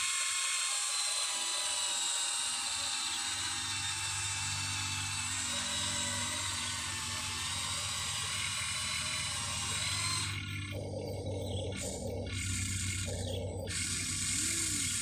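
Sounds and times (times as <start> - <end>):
electric motors whining: 0.0 - 15.0
low buzzy motor: 0.0 - 15.0.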